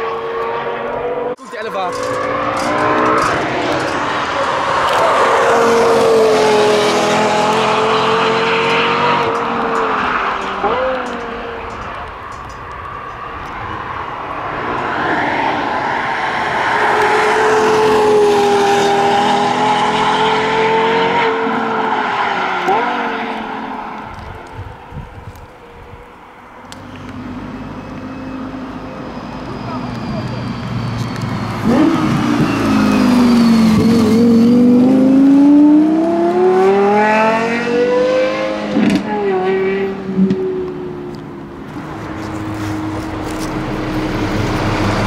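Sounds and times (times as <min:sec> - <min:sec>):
car engine at high revs passing: 0:00.0 - 0:25.0, 0:26.7 - 0:45.0.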